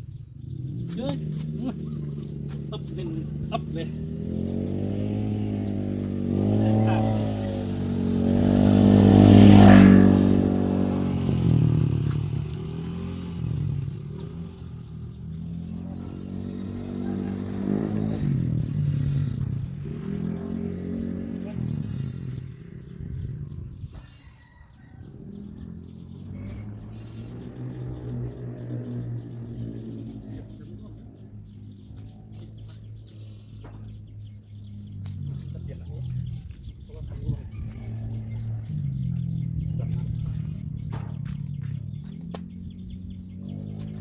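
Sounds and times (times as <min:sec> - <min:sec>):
small engine revving: 0:00.0 - 0:44.0.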